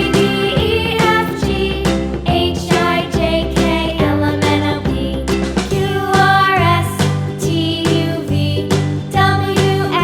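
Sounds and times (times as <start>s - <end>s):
cheerful children's music: 0.0s - 10.0s.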